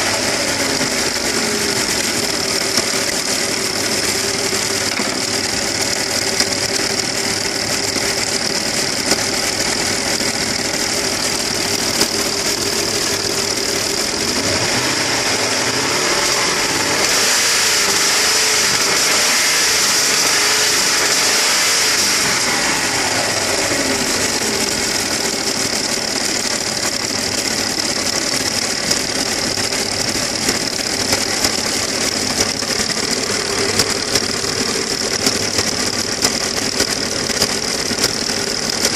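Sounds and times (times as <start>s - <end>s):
engine knocking: 0.0s - 38.9s
engine running and revving: 0.0s - 38.9s.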